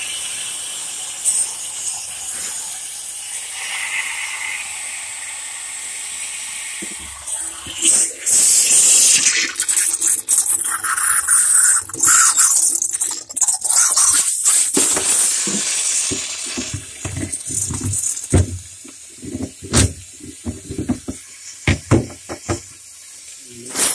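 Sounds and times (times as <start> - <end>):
hissing water spray: 0.0 - 23.9.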